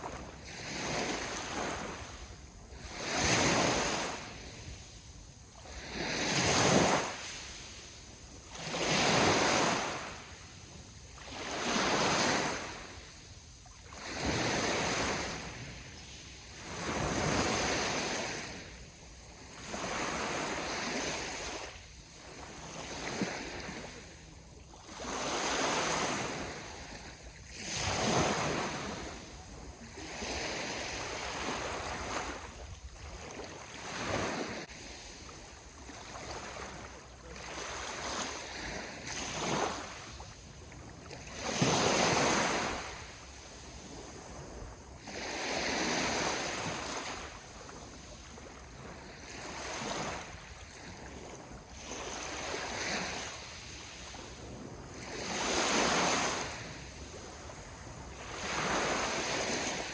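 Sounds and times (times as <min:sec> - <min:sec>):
sea waves washing ashore: 0:00.0 - 0:59.9.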